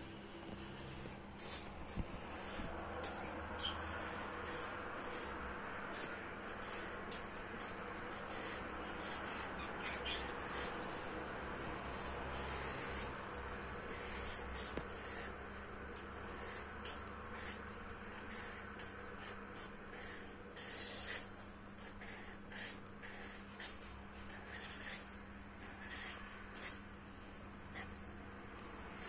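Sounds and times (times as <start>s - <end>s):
steady low hum: 0.0s - 29.0s
marker scratching on foam: 0.4s - 29.0s.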